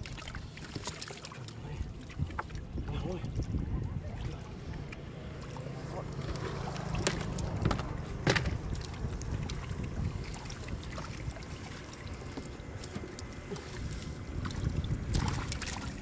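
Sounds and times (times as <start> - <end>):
sharp water splashes: 0.0 - 16.0
water sloshing in boat hull: 0.0 - 16.0.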